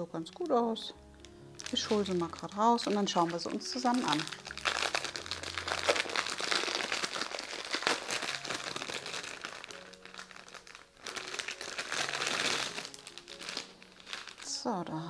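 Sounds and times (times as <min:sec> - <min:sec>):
plastic bag crinkling: 0:00.2 - 0:14.7.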